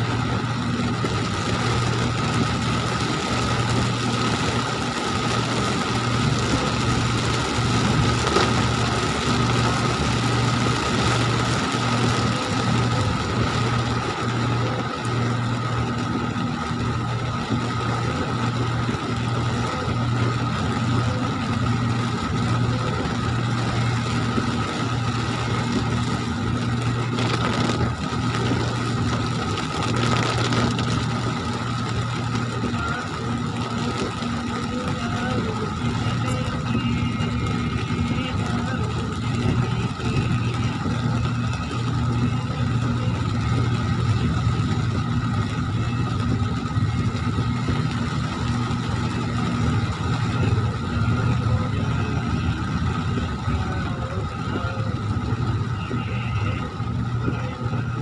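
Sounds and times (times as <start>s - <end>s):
heavy rain on car roof: 0.0s - 58.0s
low engine hum: 0.0s - 58.0s
tyres on wet road: 0.0s - 58.0s.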